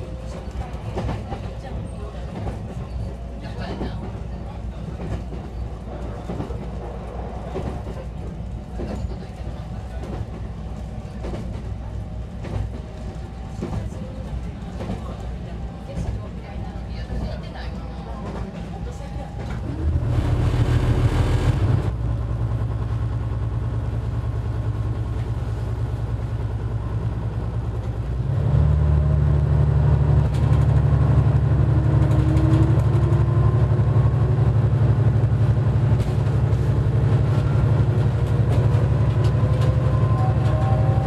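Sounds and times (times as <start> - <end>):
diesel railcar engine: 0.0 - 41.0.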